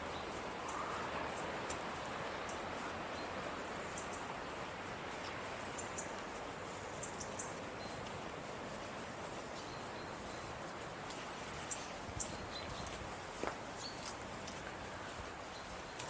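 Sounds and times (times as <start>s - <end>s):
steady outdoor noise: 0.0s - 16.0s.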